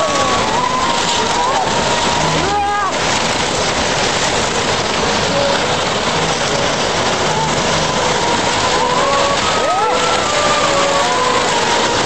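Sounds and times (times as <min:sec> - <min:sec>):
debris breaking: 0:00.0 - 0:12.0
floodwater roaring: 0:00.0 - 0:12.0.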